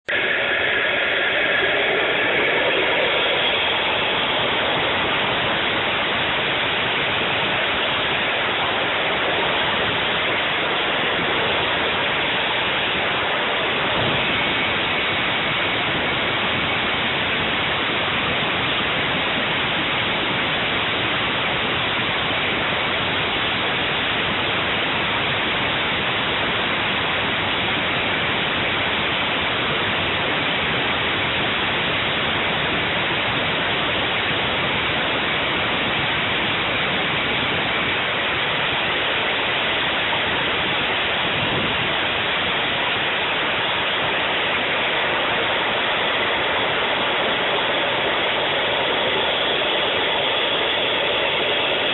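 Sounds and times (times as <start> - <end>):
gas turbine jet engine running: 0.0 - 51.9.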